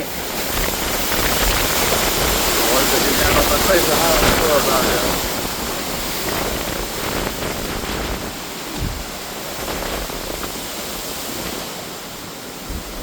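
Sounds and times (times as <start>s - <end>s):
heavy rain: 0.0s - 13.0s
hurricane wind: 0.0s - 13.0s.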